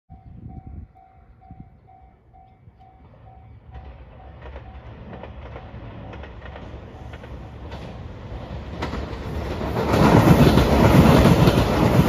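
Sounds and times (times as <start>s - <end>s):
diesel train rumble: 0.1s - 12.0s.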